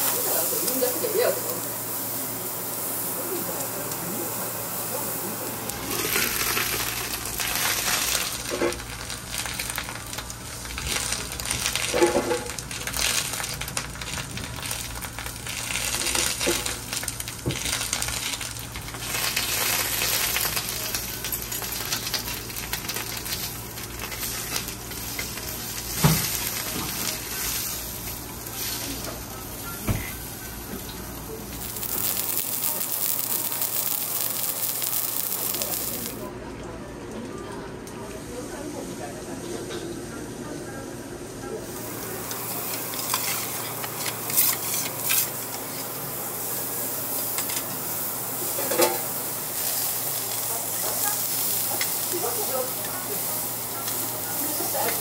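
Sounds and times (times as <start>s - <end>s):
food sizzling on griddle: 0.0s - 36.3s, 41.6s - 55.0s.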